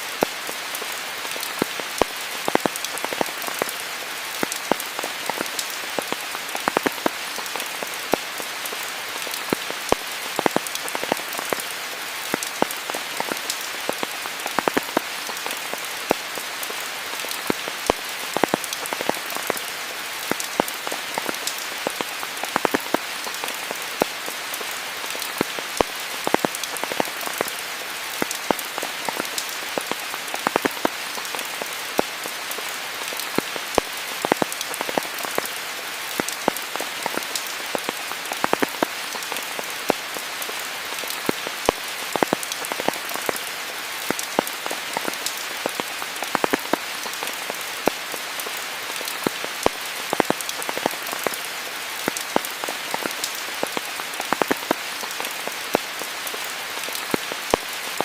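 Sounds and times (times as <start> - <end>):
steady rain falling: 0.0 - 58.0
close raindrop impacts: 0.2 - 58.0.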